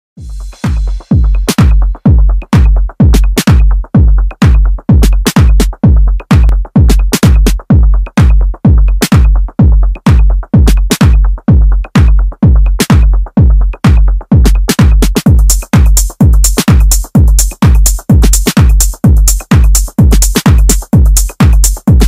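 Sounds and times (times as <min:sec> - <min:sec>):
drum machine kick: 0:00.2 - 0:22.0
electronic dance music: 0:00.2 - 0:22.0.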